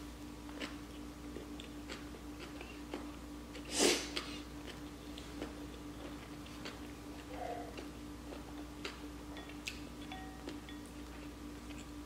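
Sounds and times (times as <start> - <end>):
steady low hum: 0.0 - 12.0
chewing noodles: 0.5 - 12.0.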